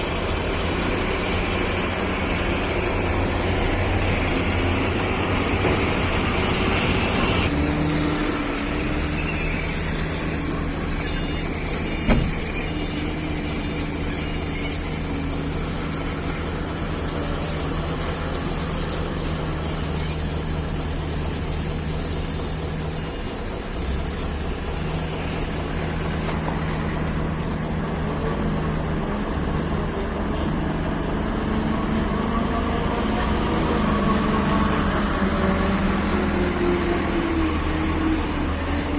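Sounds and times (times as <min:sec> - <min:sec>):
heavy vehicle engine running: 0:00.0 - 0:38.9.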